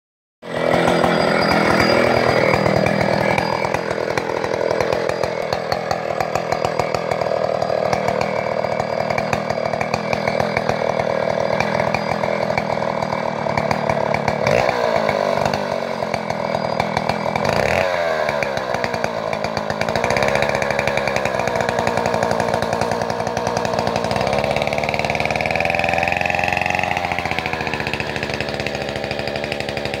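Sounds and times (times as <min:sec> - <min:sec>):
chainsaw cutting wood: 0:00.4 - 0:30.0.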